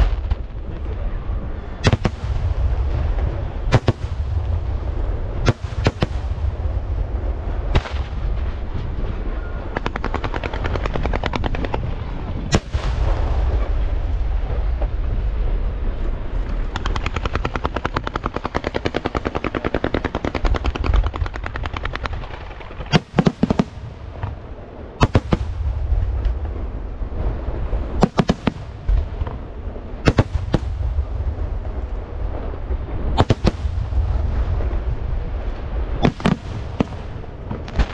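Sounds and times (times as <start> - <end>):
fireworks crackling: 0.0 - 1.1, 1.8 - 15.7, 16.3 - 37.9.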